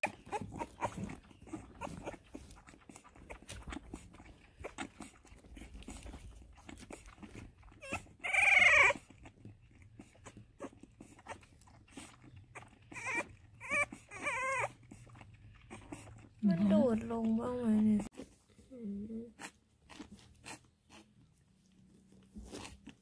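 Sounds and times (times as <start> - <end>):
puppy suckling from bottle: 0.0 - 18.6, 19.3 - 23.0
puppy whining: 0.0 - 23.0.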